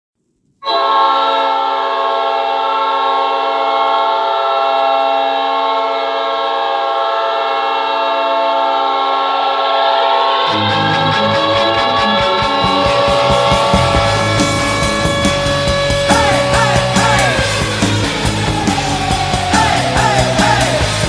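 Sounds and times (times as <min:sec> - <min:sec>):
goal horn blast: 0:00.6 - 0:18.8.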